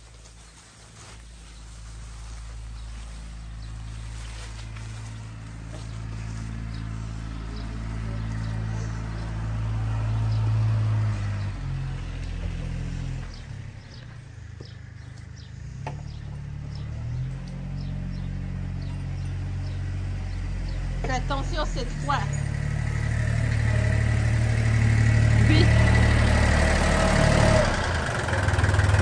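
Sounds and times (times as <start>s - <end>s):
small birds chirping: 0.0s - 24.6s
vehicle engine idling: 0.0s - 29.0s.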